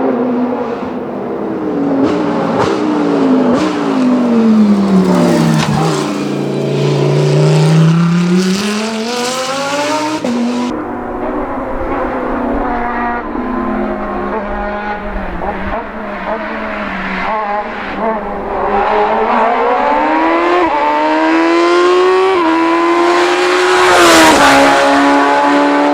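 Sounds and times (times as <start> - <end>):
race car engine: 0.0 - 25.9.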